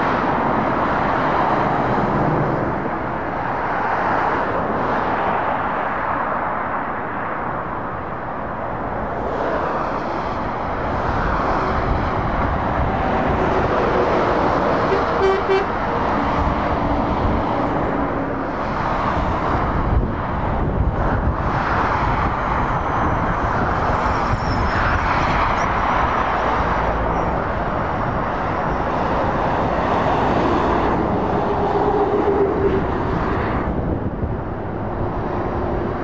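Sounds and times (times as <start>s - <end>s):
vehicles passing at speed: 0.0s - 36.0s.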